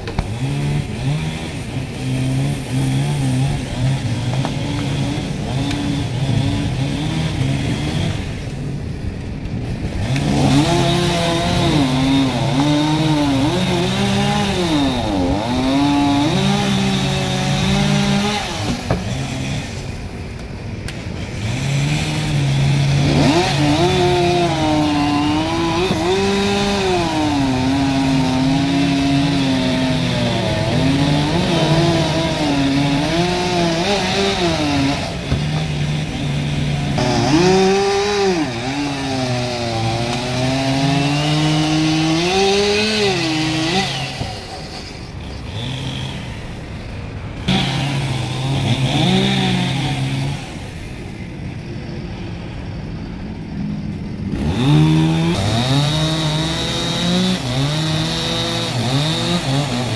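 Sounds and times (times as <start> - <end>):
chainsaw cutting wood: 0.0 - 8.7, 9.5 - 20.1, 20.8 - 46.7, 47.4 - 50.8, 54.3 - 59.9.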